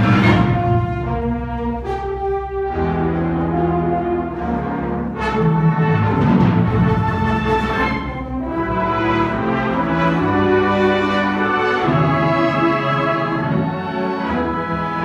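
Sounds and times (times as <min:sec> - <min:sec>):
brass chords: 0:00.0 - 0:15.0
orchestra playing: 0:00.0 - 0:15.0.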